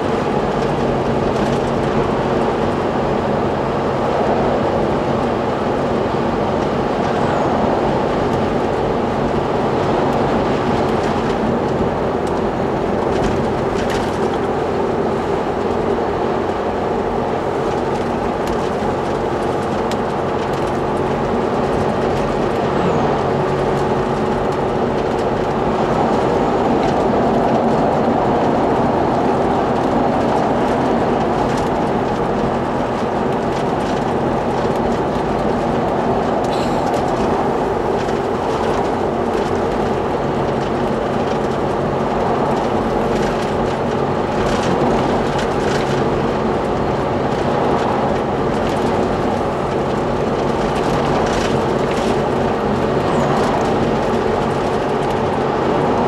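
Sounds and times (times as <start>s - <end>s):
engine and tyres droning: 0.0s - 56.0s
wind rushing past windscreen: 0.0s - 56.0s.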